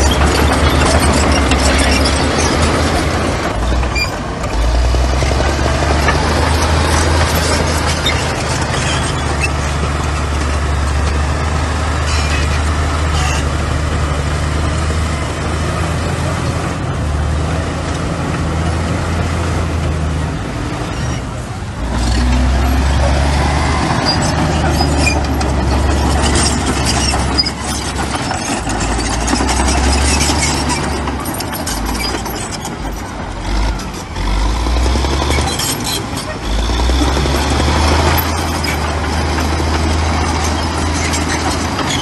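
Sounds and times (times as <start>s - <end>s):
heavy diesel engine droning: 0.0s - 42.0s.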